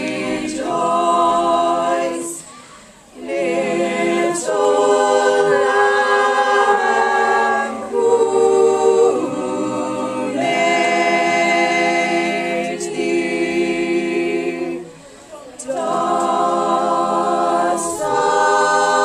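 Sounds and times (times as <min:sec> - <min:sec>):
choir singing unaccompanied: 0:00.0 - 0:19.0.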